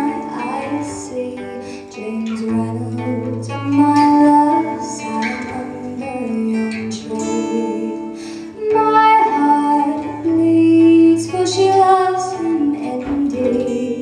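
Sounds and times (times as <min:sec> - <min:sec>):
acoustic guitar: 0:00.0 - 0:14.0
woman singing folk song: 0:00.0 - 0:14.0.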